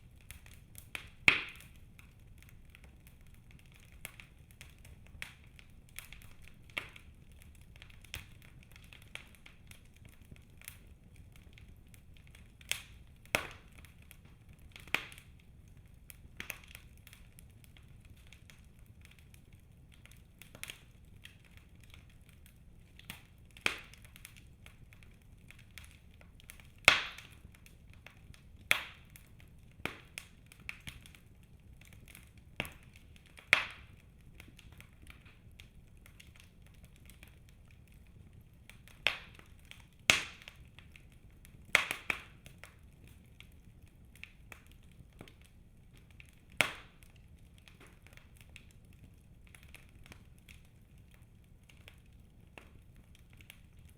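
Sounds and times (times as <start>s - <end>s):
wood crackling and popping: 0.0s - 53.9s.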